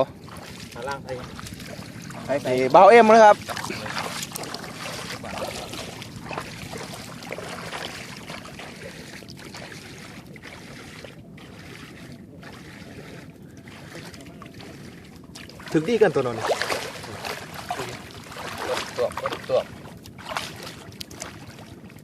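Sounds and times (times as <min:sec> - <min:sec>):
river water rushing: 0:00.0 - 0:21.6.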